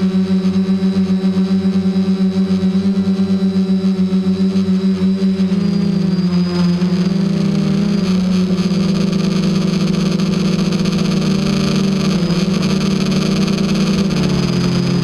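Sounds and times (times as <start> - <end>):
quadcopter motors buzzing: 0.0 - 15.0.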